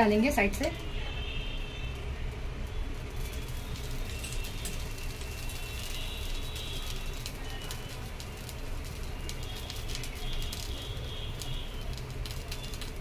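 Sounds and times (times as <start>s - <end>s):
oil sizzling on hot griddle: 0.0s - 13.0s
small crackles: 0.1s - 13.0s.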